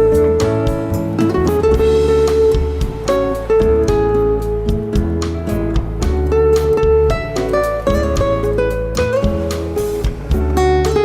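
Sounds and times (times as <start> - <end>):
bossa nova guitar and bass: 0.0 - 11.0.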